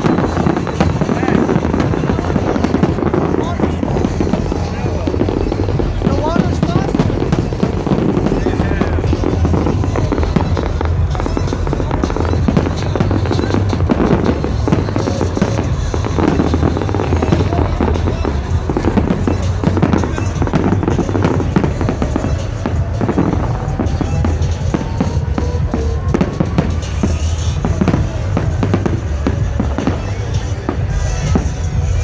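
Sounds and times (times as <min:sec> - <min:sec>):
electronic dance music: 0:00.0 - 0:32.0
fireworks bangs and crackles: 0:00.0 - 0:32.0.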